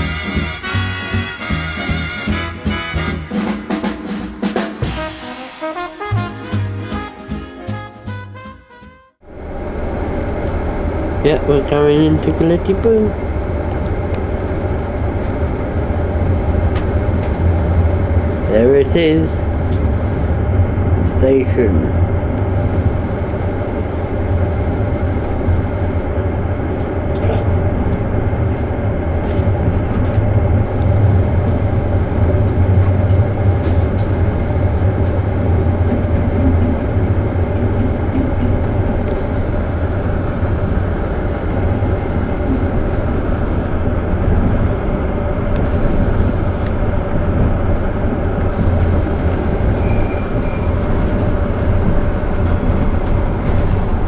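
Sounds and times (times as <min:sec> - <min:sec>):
train wheels rumbling on track: 0:09.2 - 0:54.0.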